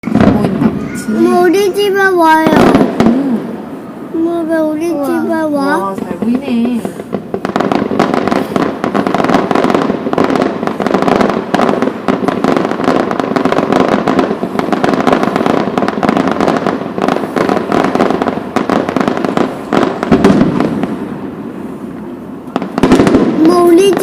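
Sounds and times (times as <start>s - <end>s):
fireworks bangs and crackling pops: 0.0s - 24.0s.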